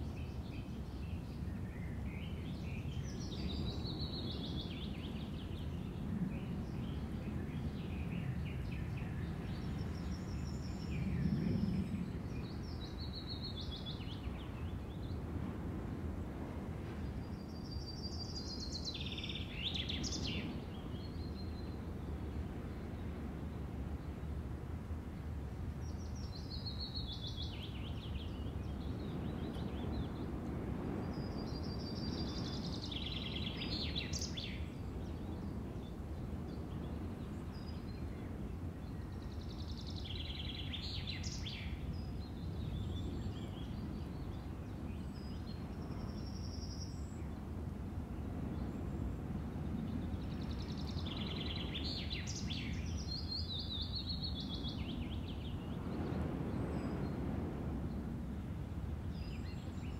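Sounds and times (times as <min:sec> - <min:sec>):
songbird chirping: 0:00.0 - 0:24.2, 0:25.2 - 0:47.4, 0:48.2 - 0:57.6.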